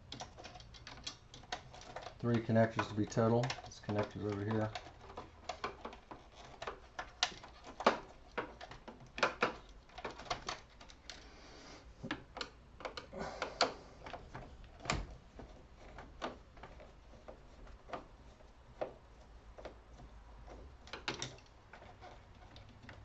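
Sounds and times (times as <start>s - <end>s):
plastic connector clicks and rattles: 0.0s - 11.2s, 12.0s - 18.1s, 19.6s - 23.0s.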